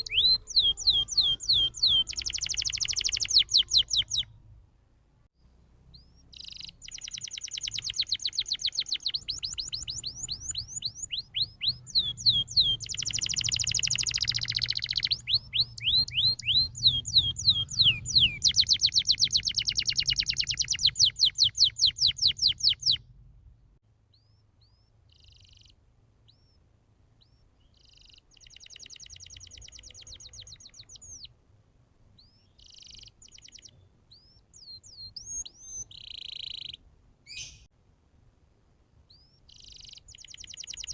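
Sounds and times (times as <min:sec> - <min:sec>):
canary singing trills: 0:00.0 - 0:04.4, 0:05.9 - 0:23.0, 0:24.1 - 0:26.6, 0:27.2 - 0:31.4, 0:32.2 - 0:37.7, 0:39.1 - 0:40.9.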